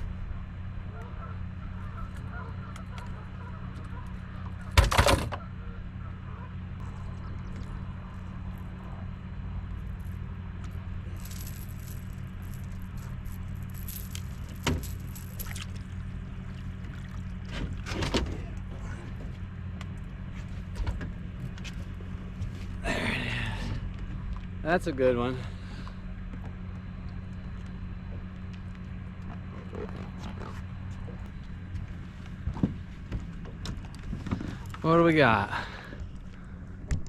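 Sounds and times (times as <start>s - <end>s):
boat motor humming: 0.0s - 37.0s.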